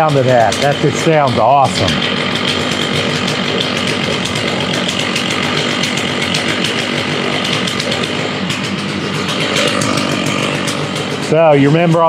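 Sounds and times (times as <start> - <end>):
chainsaw engine idling: 0.0 - 12.0.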